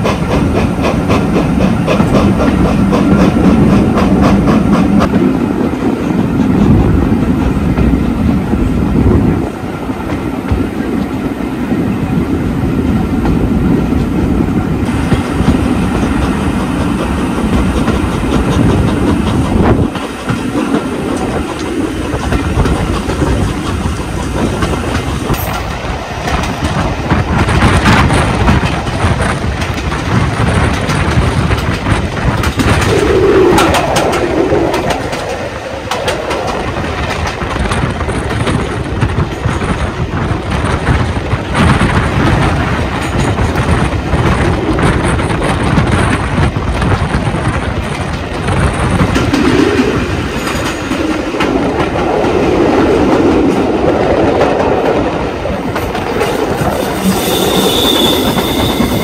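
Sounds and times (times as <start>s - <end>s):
train wheels clattering over rails: 0.0s - 59.0s.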